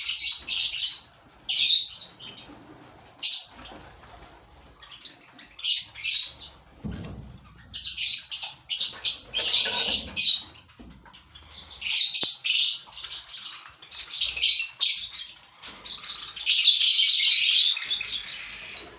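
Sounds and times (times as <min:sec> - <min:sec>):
lovebirds chirping: 0:00.0 - 0:18.9.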